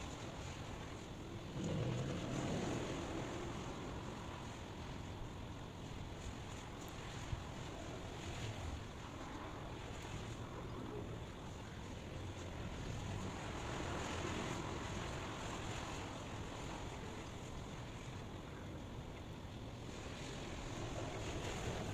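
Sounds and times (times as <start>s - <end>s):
white-noise rush: 0.0s - 21.9s.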